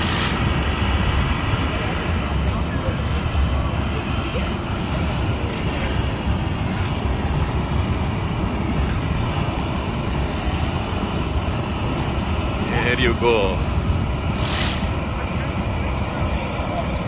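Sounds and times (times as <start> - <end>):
inflator fan running loudly: 0.0 - 17.0.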